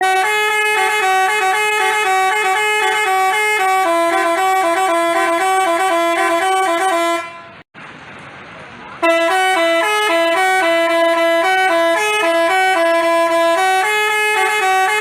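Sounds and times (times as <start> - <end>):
multi-tone bus horn tune: 0.0 - 7.7, 9.0 - 15.0.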